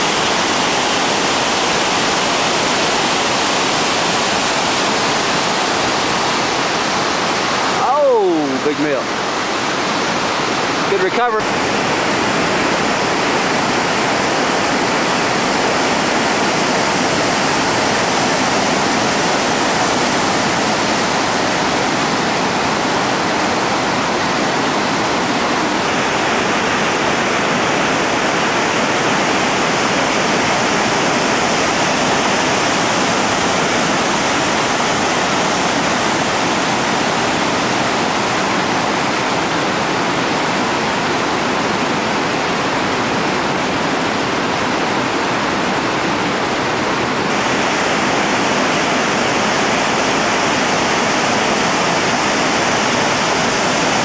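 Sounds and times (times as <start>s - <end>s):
river rapid rushing: 0.0s - 54.0s.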